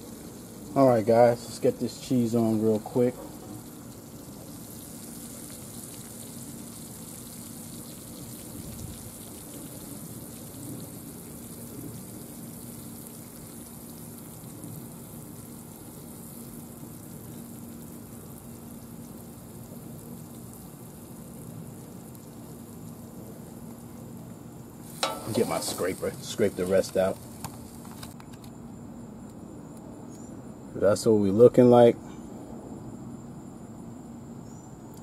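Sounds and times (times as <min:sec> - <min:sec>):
food sizzling on a griddle: 0:00.0 - 0:28.2
low steady hum: 0:00.0 - 0:35.0.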